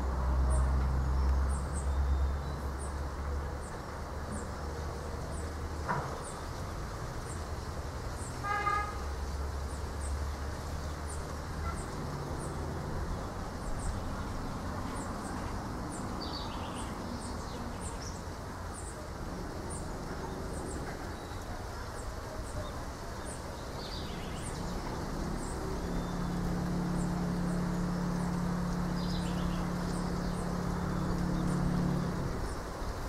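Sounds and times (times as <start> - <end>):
wind through palm trees: 0.0 - 33.0.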